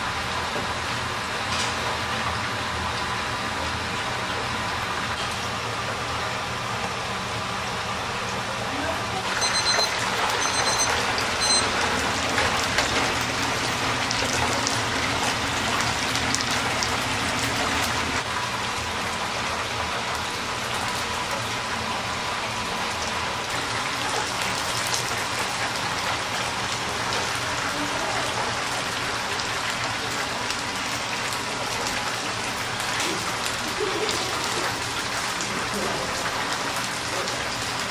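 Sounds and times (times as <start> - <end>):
oil sizzling in deep fryer: 0.0 - 37.9.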